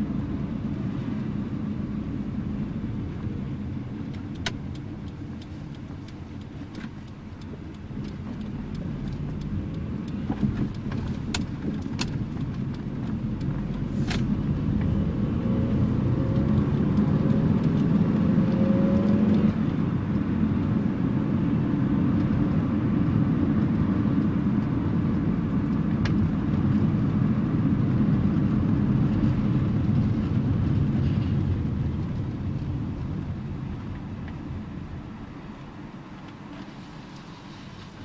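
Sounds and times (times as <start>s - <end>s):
car engine driving: 0.0s - 38.0s
road noise: 0.0s - 38.0s.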